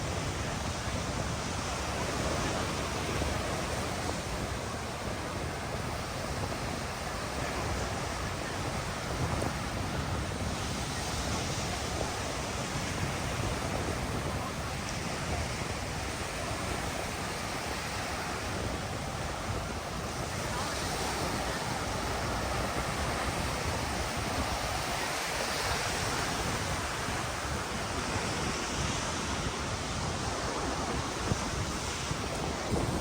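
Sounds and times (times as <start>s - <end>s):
surf washing onto beach: 0.0s - 33.0s
wind buffeting microphone: 0.0s - 33.0s.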